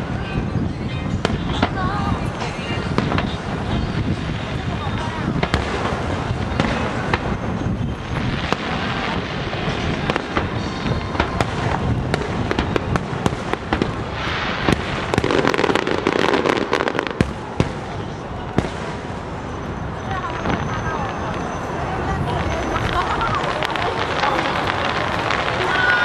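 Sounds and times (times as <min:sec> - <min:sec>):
fireworks booms and bangs: 0:00.0 - 0:26.0
rapid firework cracks: 0:01.0 - 0:19.5, 0:22.2 - 0:26.0.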